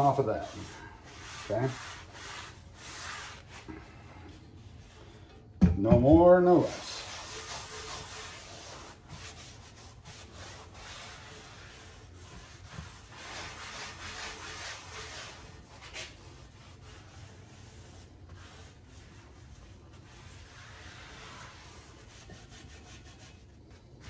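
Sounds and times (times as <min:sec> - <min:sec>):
paper towel rubbing skillet: 0:00.0 - 0:05.2, 0:06.3 - 0:24.0.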